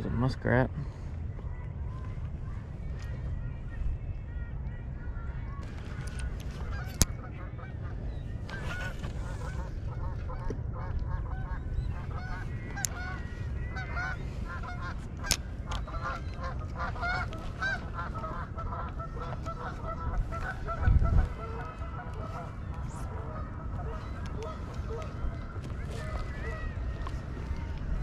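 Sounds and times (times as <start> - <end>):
low rumble: 0.0 - 28.0
geese honking: 4.4 - 28.0.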